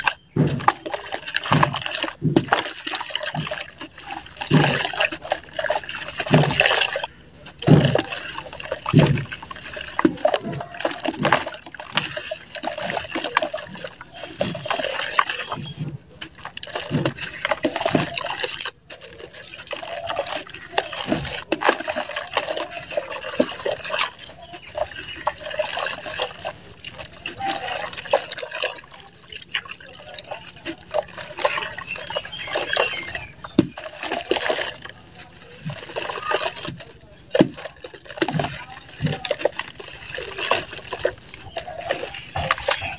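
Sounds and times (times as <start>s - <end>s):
dirt crunching and crackling: 0.0s - 42.9s
grit trickling into water: 0.0s - 42.9s
small chunks splashing into water: 0.0s - 42.9s.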